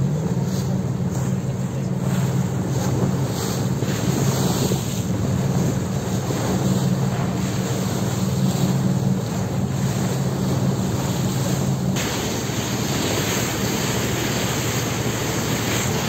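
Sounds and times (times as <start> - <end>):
boat engine droning: 0.0 - 16.0
water rushing along hull: 0.0 - 16.0.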